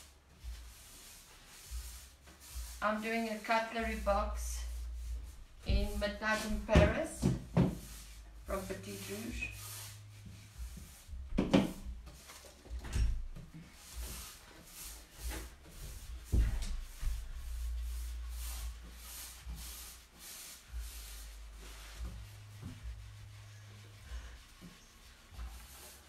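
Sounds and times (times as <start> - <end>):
brush rubbing strokes on wood: 0.0 - 26.0.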